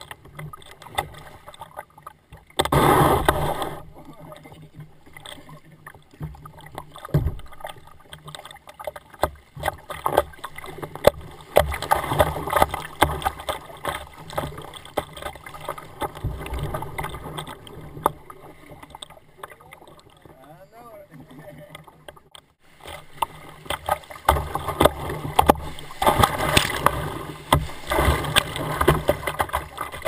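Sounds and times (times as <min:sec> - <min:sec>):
paddle blades splashing: 0:00.0 - 0:30.0
water slapping against hull: 0:00.0 - 0:30.0.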